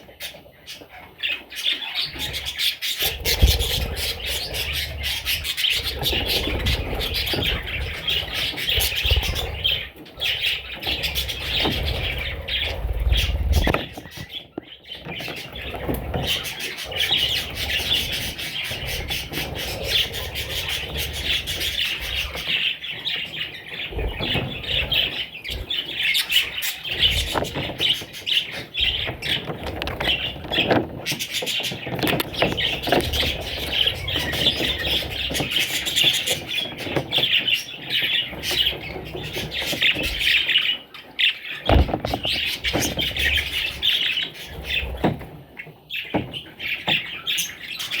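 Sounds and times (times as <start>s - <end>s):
budgerigars chattering: 0.0s - 48.0s.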